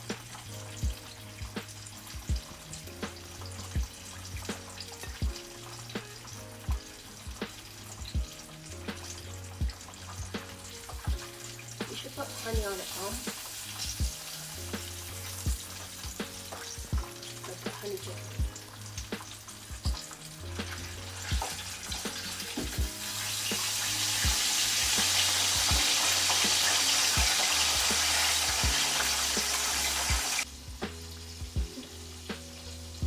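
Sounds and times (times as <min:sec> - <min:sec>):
chicken sizzling in hot oil: 0:00.0 - 0:33.0
faint background music: 0:00.0 - 0:33.0.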